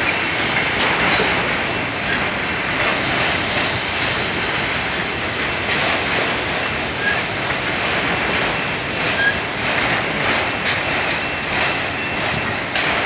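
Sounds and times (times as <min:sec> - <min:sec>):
freight cars rumbling on rails: 0:00.0 - 0:13.0.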